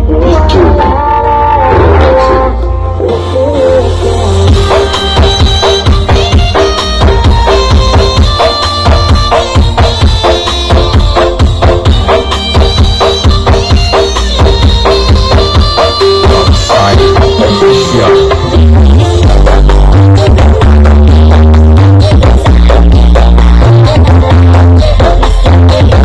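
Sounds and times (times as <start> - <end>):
loud drum-driven music with bass: 0.0 - 26.0.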